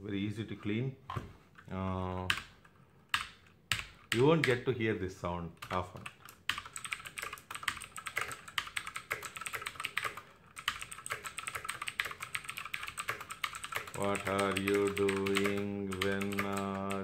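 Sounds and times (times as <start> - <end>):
mechanical keyboard typing: 2.3 - 4.6, 5.6 - 17.0.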